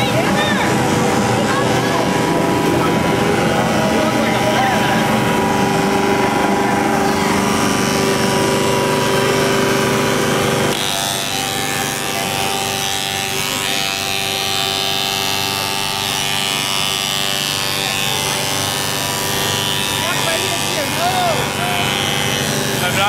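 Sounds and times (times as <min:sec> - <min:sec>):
electric hair clippers buzzing: 0:00.0 - 0:23.0.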